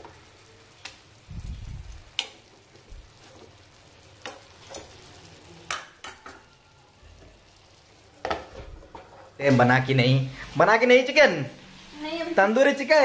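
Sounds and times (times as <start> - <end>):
chicken sizzling in a frying pan: 0.0 - 13.0.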